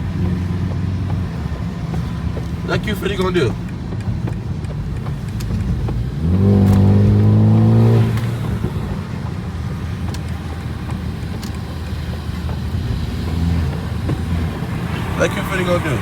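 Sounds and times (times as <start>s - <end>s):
car engine accelerating hard: 0.0s - 16.0s
road noise: 0.0s - 16.0s.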